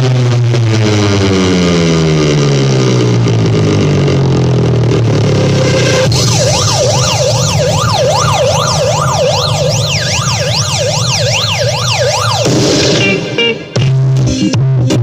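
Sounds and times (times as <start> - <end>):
wailing siren: 0.0 - 13.8
low bass hum: 0.0 - 15.0.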